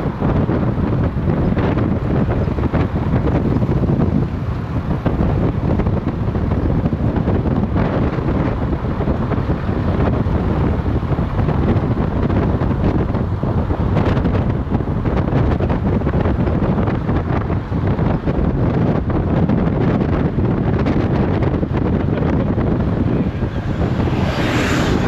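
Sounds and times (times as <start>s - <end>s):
vehicle road noise: 0.0s - 25.0s
wind buffeting microphone: 0.0s - 25.0s.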